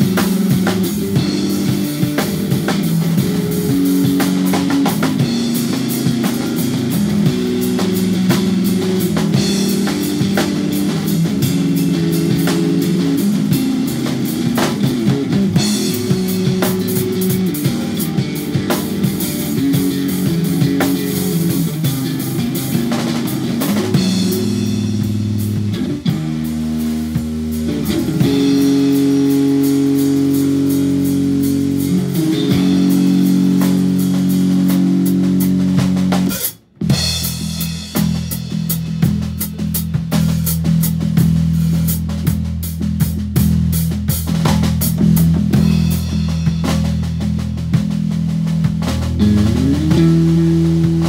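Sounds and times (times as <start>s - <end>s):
drum kit playing: 0.0s - 51.0s
electric bass: 0.0s - 51.0s.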